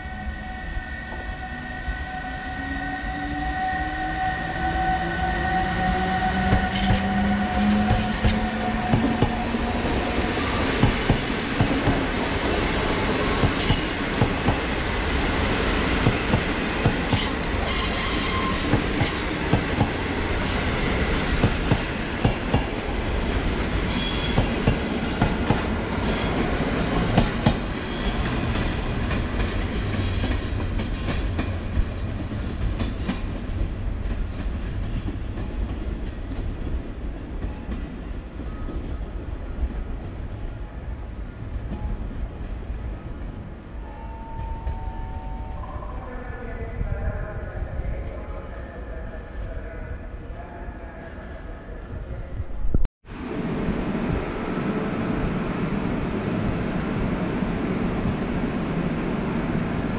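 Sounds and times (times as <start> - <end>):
train coaches rumbling on rails: 0.0 - 59.9.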